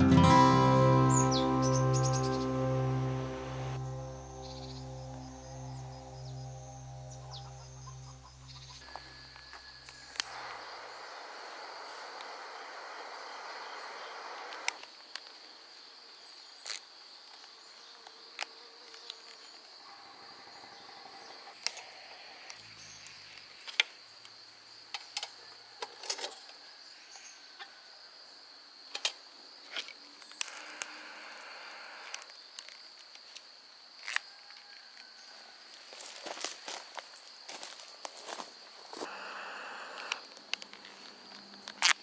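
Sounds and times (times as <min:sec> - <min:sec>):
insects trilling: 0:01.0 - 0:42.0.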